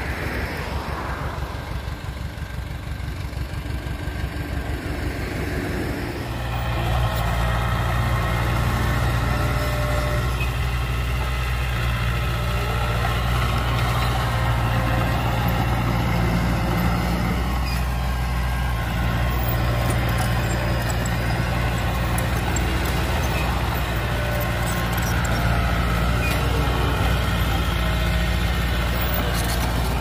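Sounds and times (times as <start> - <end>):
bulldozer diesel engine droning: 0.0 - 30.0.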